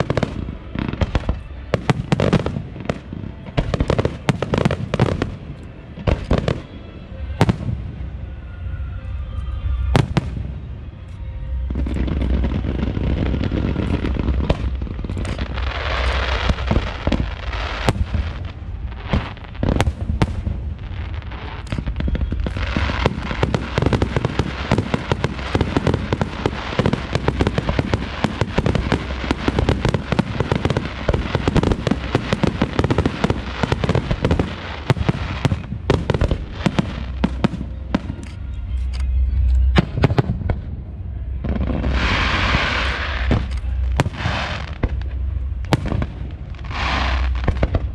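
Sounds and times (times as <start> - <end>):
fireworks bangs and crackling pops: 0.0 - 8.0, 9.8 - 38.5, 39.6 - 40.8, 41.4 - 47.9
hissing rush of fireworks: 0.0 - 47.9.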